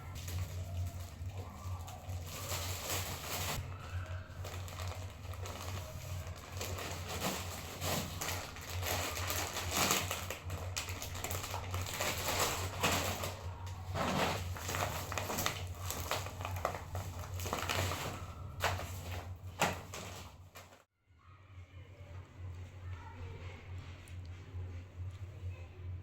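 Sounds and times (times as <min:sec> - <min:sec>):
rustling and crinkling handling: 0:00.0 - 0:20.9.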